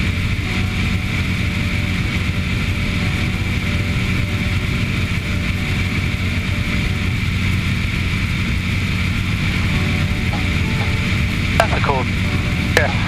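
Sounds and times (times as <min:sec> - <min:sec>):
aircraft engine and propeller drone: 0:00.0 - 0:13.0.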